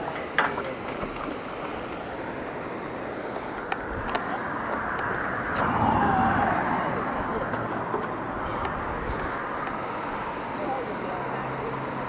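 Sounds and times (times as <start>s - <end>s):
river water running: 0.0s - 12.0s.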